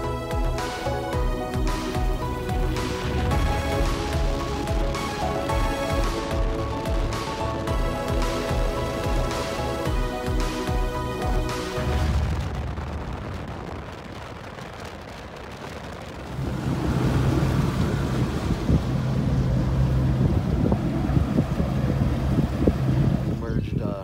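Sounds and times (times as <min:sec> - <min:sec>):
boat motor humming: 0:00.0 - 0:23.4
water rushing past hull: 0:00.0 - 0:23.6
wind buffeting microphone: 0:01.5 - 0:24.0.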